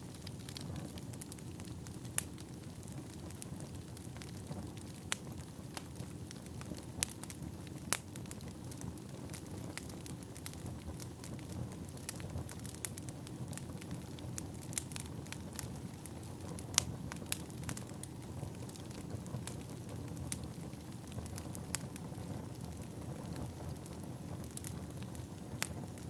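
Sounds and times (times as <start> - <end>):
fire crackling and popping: 0.0 - 26.0
low rush of flame: 0.0 - 26.0.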